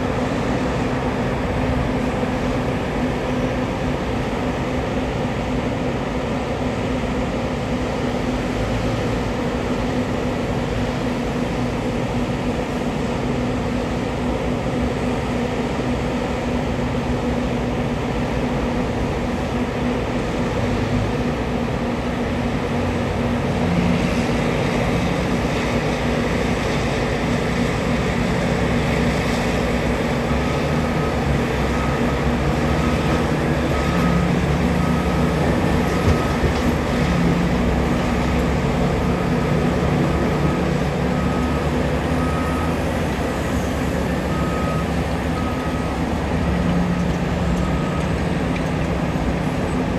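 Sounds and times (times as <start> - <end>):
heavy diesel engines under load: 0.0 - 49.9.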